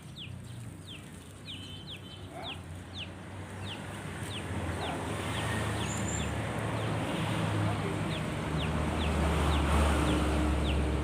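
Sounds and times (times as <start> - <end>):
small bird peeping: 0.0 - 7.0, 7.8 - 11.0.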